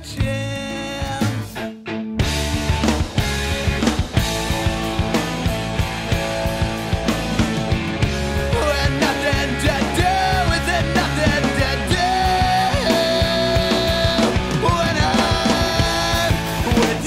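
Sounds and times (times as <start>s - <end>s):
rock band music: 0.0s - 17.0s.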